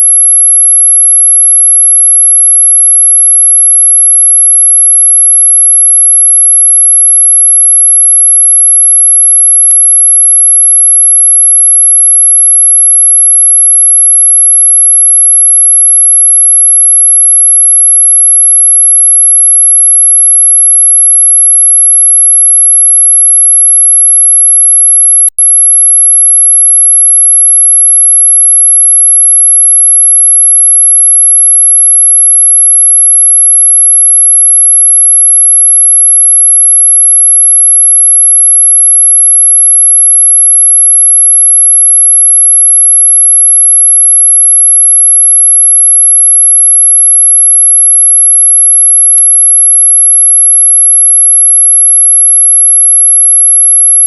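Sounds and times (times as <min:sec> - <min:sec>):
high-pitched sine tone: 0:00.0 - 0:54.0.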